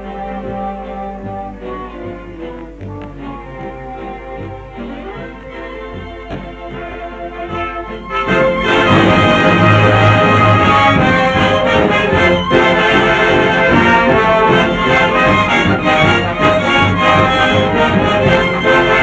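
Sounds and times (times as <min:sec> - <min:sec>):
dance orchestra with brass and reeds: 0:00.0 - 0:19.0.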